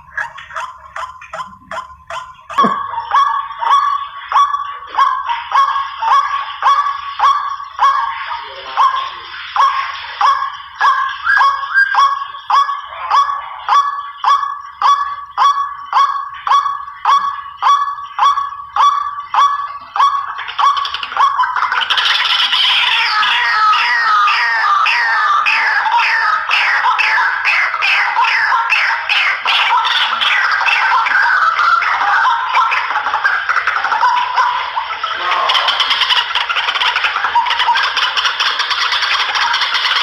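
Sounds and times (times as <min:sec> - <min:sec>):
bird calling harsh repeated note: 0:00.0 - 0:40.0.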